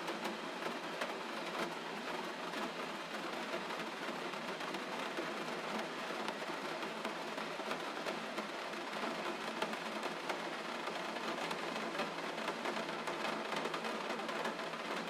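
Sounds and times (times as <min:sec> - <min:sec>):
gentle rain falling: 0:00.0 - 0:15.0.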